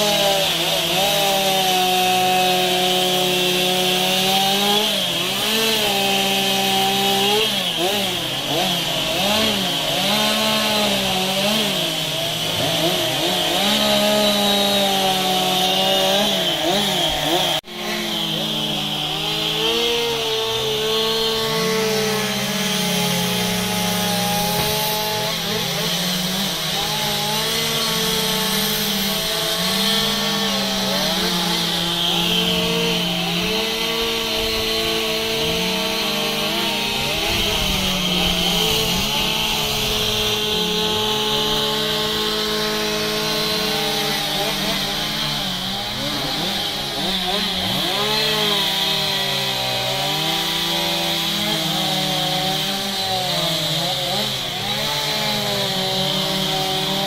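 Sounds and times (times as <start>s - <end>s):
chainsaw carving wood: 0.0s - 57.0s.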